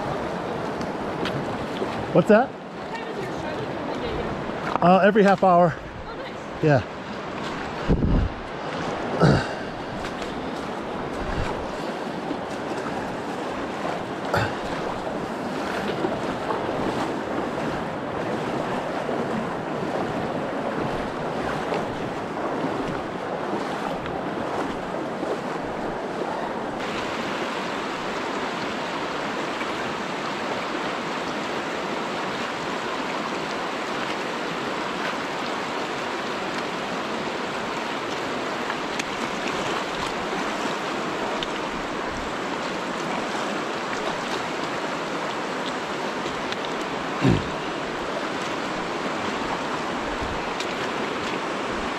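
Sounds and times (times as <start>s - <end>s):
river flowing over rocks: 0.0s - 51.9s.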